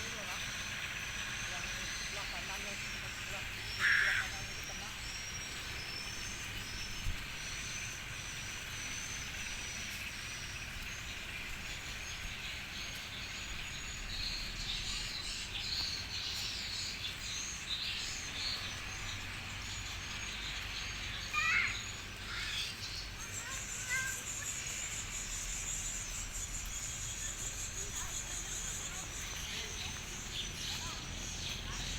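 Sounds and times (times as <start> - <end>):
bird chirps: 0.0 - 31.9
high insect whine: 0.0 - 31.9.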